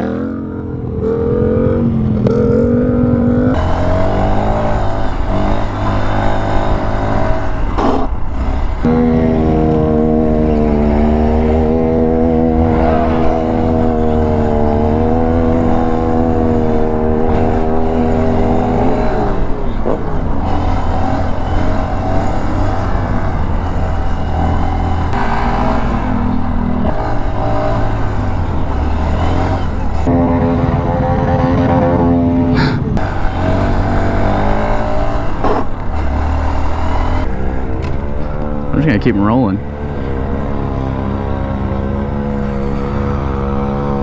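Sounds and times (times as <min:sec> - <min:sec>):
vehicle engine revving high: 0:00.0 - 0:44.0.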